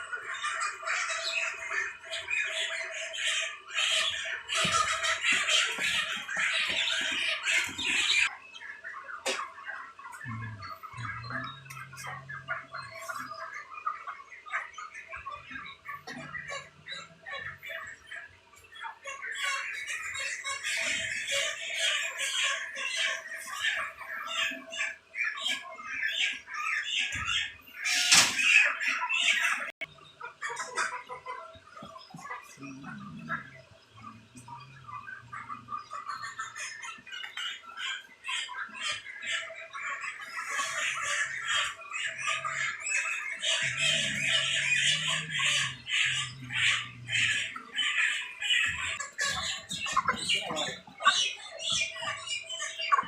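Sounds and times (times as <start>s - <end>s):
chickens squawking and cheeping: 0.0s - 53.0s.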